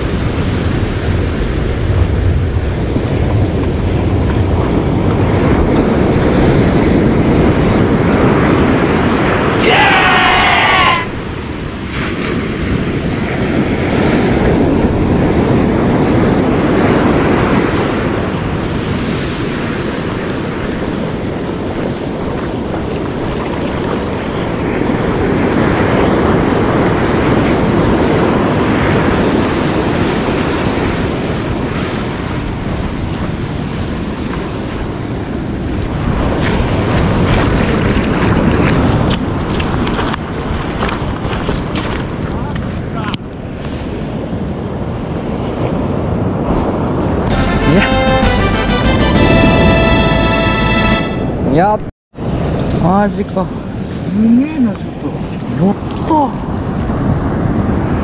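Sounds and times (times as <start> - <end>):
wind buffeting microphone: 0.0 - 47.3, 49.1 - 58.0
ocean surf breaking: 0.0 - 58.0.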